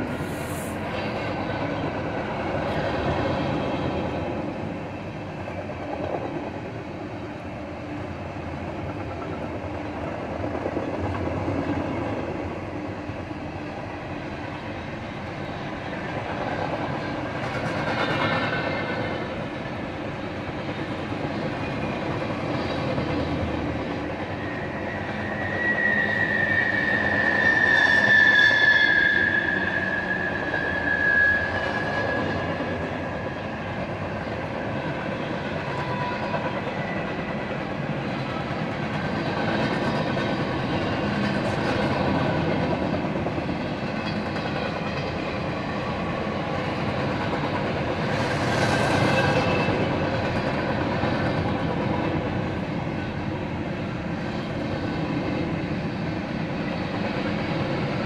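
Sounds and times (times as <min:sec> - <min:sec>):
freight train cars rolling past: 0:00.0 - 0:58.0
train wheels squealing: 0:00.0 - 0:58.0.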